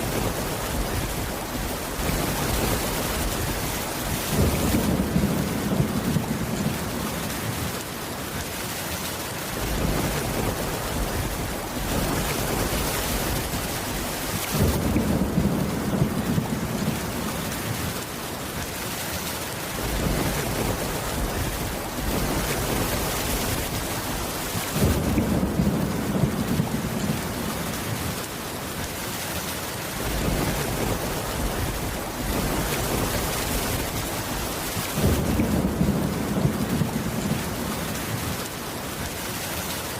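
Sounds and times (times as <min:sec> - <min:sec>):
low thunder rumbles: 0:00.0 - 0:07.8, 0:09.5 - 0:18.6, 0:19.7 - 0:28.2, 0:30.0 - 0:38.5
heavy rain: 0:00.0 - 0:39.9.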